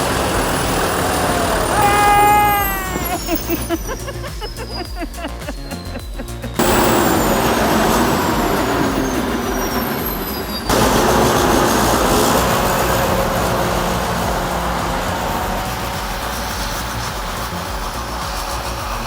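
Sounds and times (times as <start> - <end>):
bulldozer diesel engine running hard: 0.0 - 3.7, 6.6 - 19.0.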